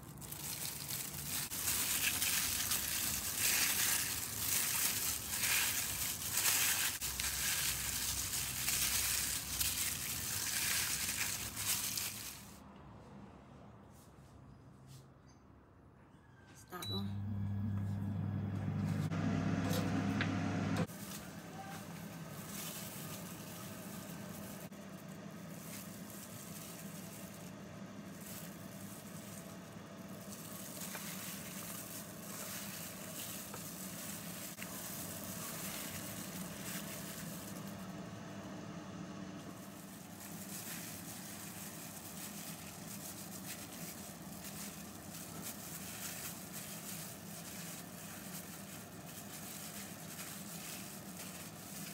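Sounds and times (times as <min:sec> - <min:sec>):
air fryer hum: 0:00.0 - 0:12.3, 0:16.7 - 0:51.9
plastic gloves rustling: 0:00.0 - 0:12.6, 0:20.8 - 0:51.9.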